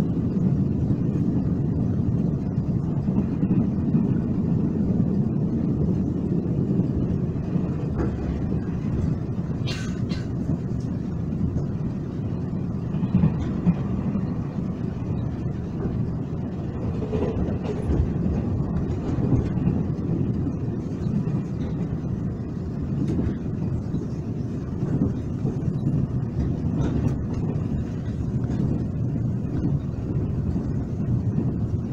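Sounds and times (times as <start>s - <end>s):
train rumbling: 0.0s - 31.9s.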